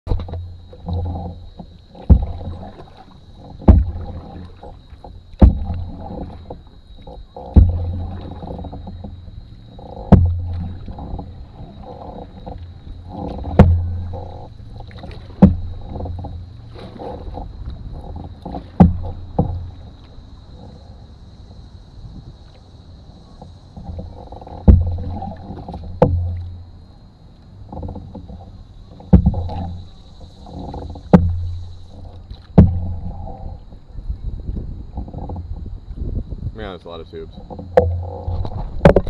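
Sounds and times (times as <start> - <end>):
paddle knocking against hull: 0.0 - 21.1, 22.0 - 26.9, 27.5 - 39.0
paddle swishing water: 0.0 - 39.0
water washing along hull: 0.0 - 39.0.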